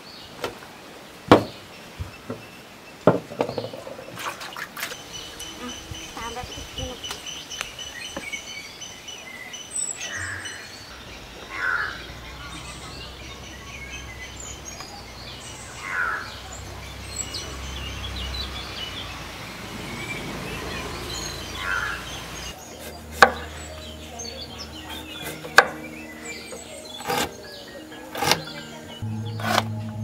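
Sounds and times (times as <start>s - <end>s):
birds chirping: 0.0s - 30.0s
outdoor background noise: 0.0s - 30.0s.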